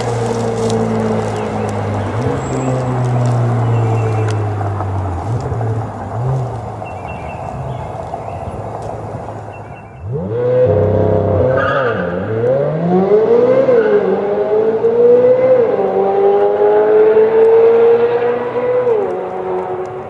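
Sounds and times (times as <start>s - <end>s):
sports car engine accelerating hard: 0.0s - 20.0s.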